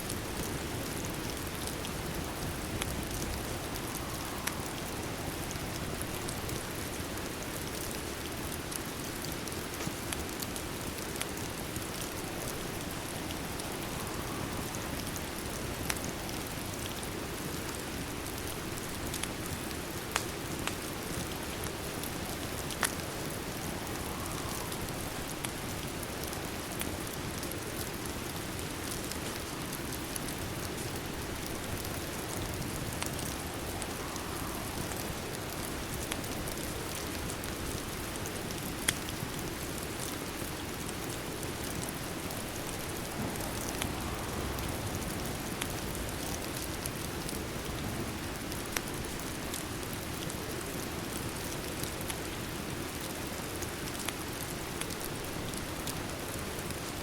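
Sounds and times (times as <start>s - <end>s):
fireplace fire crackling: 0.0s - 57.0s
steady rain: 0.0s - 57.0s.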